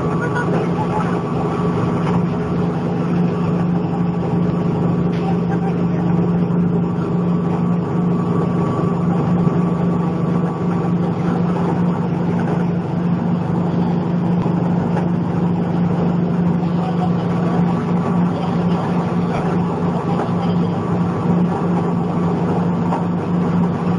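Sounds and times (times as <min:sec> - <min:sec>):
plastic shredding machine drone: 0:00.0 - 0:23.9.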